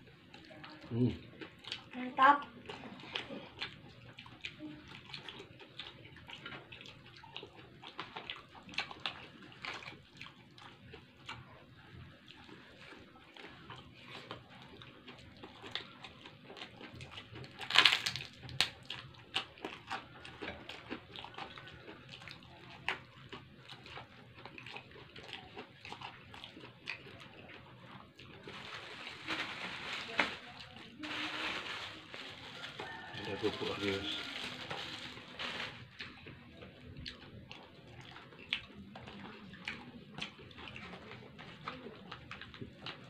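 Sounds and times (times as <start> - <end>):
wet chewing and lip smacks: 0.0 - 28.5, 35.9 - 43.0.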